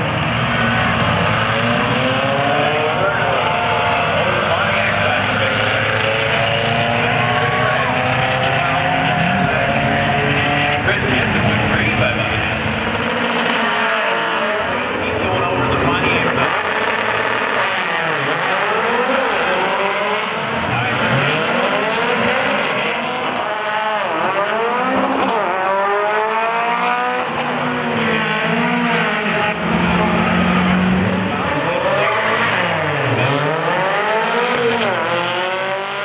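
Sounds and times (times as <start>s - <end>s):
drag cars racing at full throttle: 0.0s - 36.0s.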